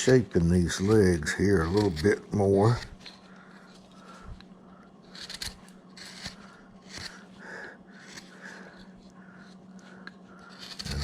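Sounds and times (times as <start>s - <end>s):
gouge scraping wood: 0.0s - 4.2s, 5.0s - 11.0s
faint steady hum: 0.0s - 11.0s.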